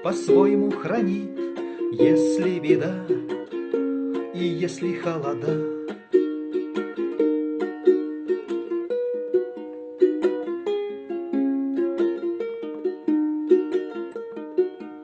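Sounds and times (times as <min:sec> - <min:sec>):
ukulele strumming chords: 0:00.0 - 0:15.0.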